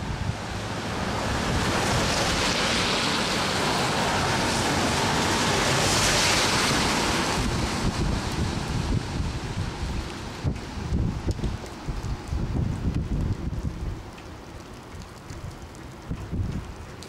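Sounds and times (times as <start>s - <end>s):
rain hissing: 0.0s - 17.0s
wind rumble on microphone: 0.0s - 17.0s.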